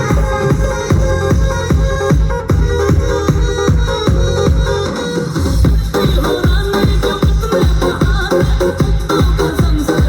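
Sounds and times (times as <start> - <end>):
heavy kick drum: 0.0 - 10.0.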